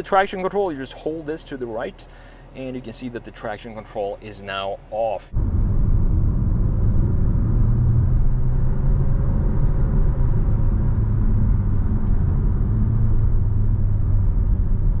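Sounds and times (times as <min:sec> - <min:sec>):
engine and road noise rumble: 0:00.0 - 0:15.0.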